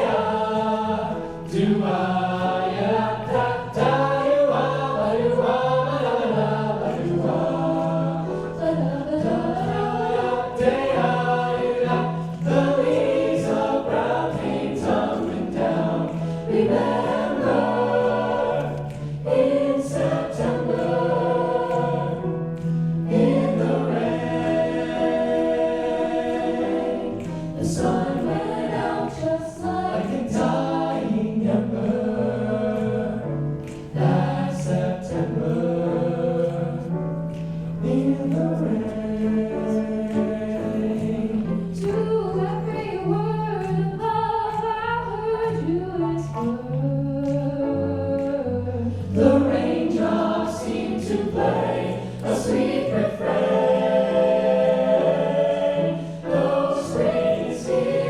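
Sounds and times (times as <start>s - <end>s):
choir singing jazz in harmony: 0.0s - 58.0s.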